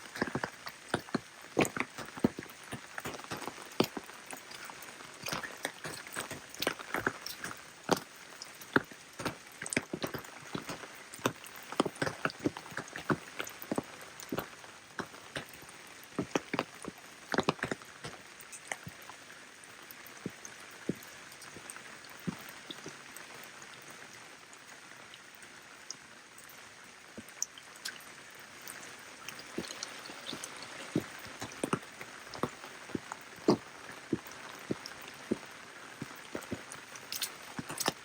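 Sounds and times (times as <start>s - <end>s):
rain falling with steady hiss: 0.0s - 38.0s
raindrops striking a surface: 0.0s - 38.0s.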